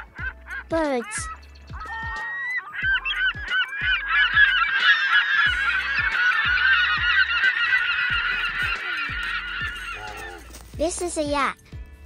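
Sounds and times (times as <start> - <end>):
flock of birds calling: 0.0 - 10.7.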